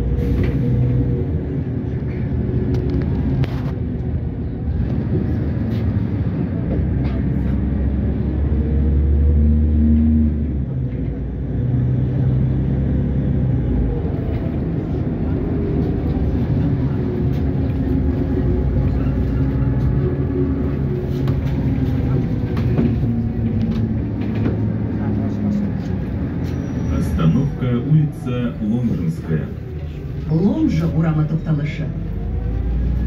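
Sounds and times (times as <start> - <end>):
bus engine hum: 0.0 - 33.0
road noise: 0.0 - 33.0.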